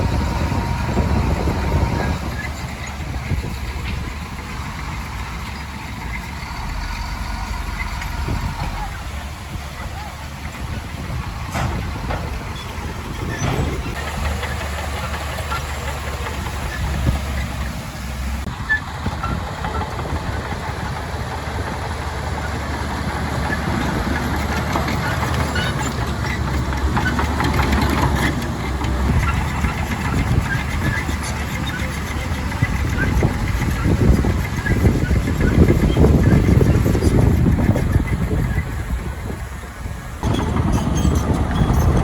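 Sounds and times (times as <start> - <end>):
metallic clanks and rattles: 0.0 - 18.0, 23.0 - 39.4, 40.2 - 42.0
diesel engine rumble: 0.0 - 42.0.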